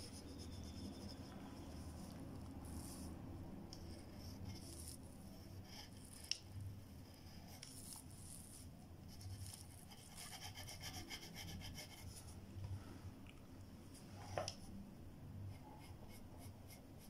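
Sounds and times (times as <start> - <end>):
pencil scratching on paper: 0.0 - 12.3, 15.5 - 17.0.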